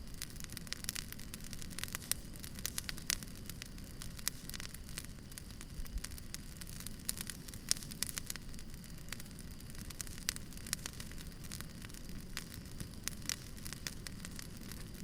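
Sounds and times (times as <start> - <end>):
fire pops and snaps: 0.0 - 15.0
low noise of burning logs: 0.0 - 15.0.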